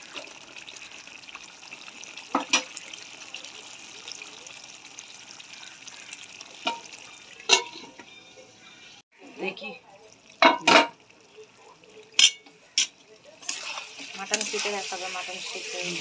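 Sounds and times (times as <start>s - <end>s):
curry sizzling in a pot: 0.0s - 16.0s.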